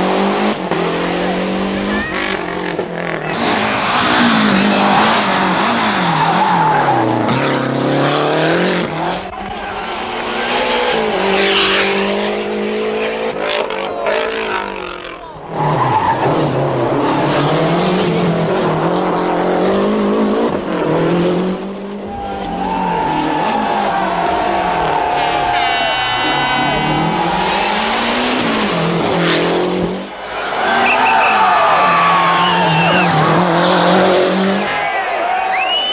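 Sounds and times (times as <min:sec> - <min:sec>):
rally car engines revving hard: 0:00.0 - 0:30.2, 0:31.6 - 0:34.9.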